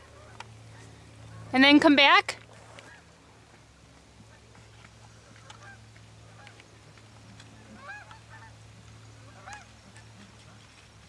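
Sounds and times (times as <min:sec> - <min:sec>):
faint honking bird calls: 0:00.0 - 0:03.4, 0:04.2 - 0:10.6
low steady hum: 0:00.0 - 0:11.0.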